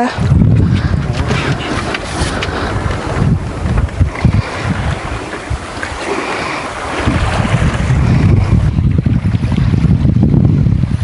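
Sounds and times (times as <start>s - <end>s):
small waves slapping boat: 0.0s - 11.0s
wind buffeting microphone: 0.0s - 11.0s.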